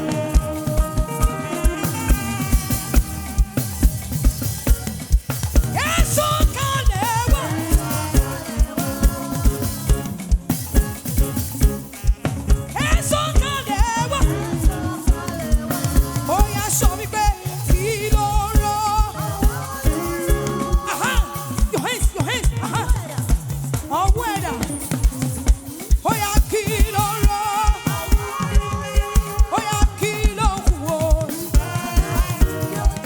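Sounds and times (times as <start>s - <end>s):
gospel praise band music: 0.0s - 33.0s.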